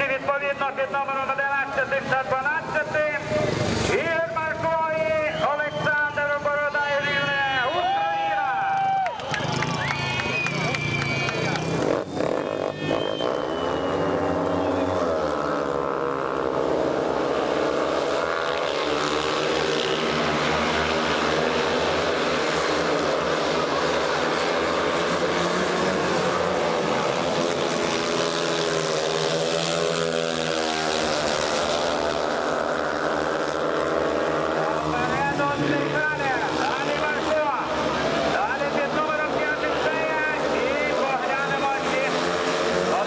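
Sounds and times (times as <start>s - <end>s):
motorcycle engines revving: 0.0s - 43.0s.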